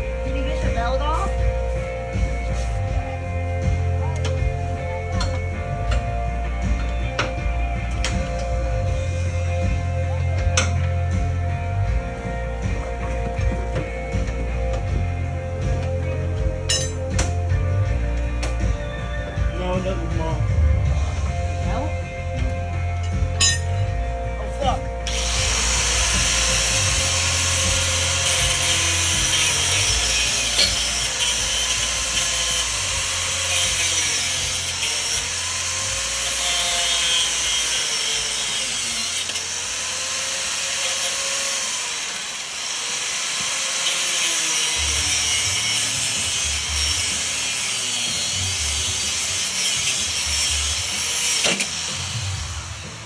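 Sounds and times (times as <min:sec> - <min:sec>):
grinder whining on metal: 0:00.0 - 0:53.0.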